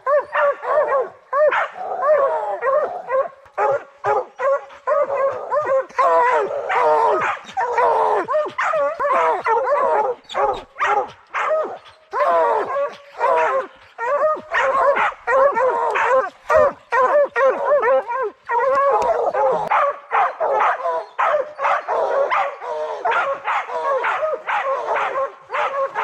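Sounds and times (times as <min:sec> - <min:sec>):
hounds baying and barking: 0:00.0 - 0:26.0.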